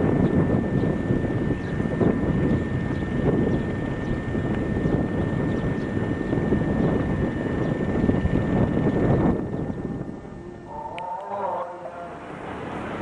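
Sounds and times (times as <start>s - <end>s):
high machine whine: 0.0s - 13.0s
industrial machinery roar: 0.0s - 13.0s.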